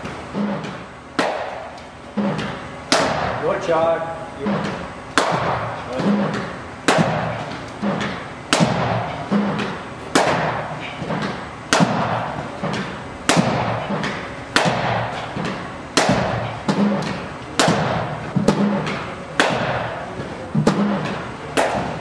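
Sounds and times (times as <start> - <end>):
cricket bat striking ball: 1.2 - 3.4, 5.2 - 22.0.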